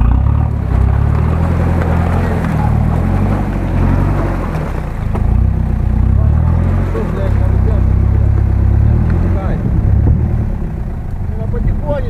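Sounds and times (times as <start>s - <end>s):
low engine running: 0.0s - 12.0s.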